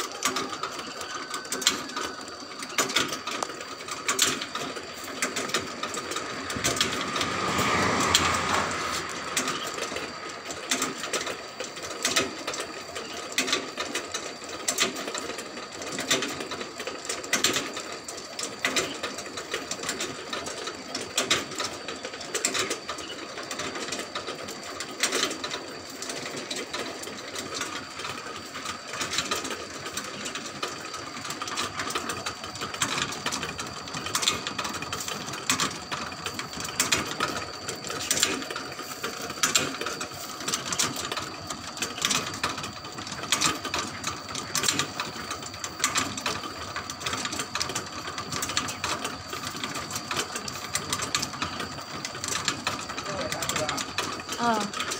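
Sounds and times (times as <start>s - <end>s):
mechanical hum: 0.0s - 54.9s
chain drive clicking and rattling: 0.1s - 54.9s.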